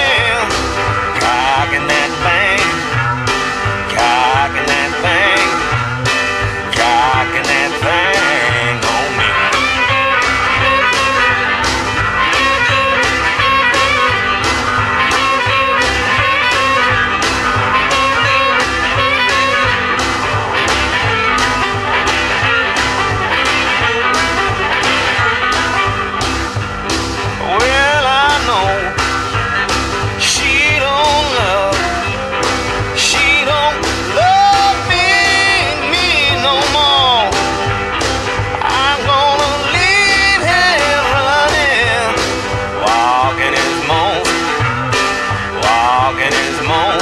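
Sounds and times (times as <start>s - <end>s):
bass: 0.0s - 47.0s
drum beat: 0.0s - 47.0s
electric blues band playing: 0.0s - 47.0s
lead guitar bending lines: 0.0s - 47.0s.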